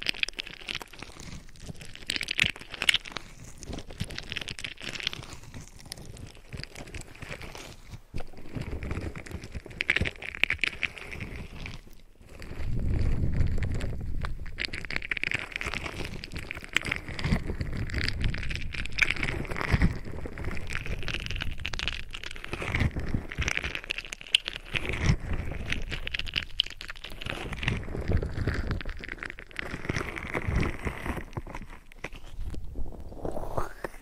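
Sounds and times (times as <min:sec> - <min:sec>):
scratching and rubbing on microphone: 0:00.0 - 0:34.0.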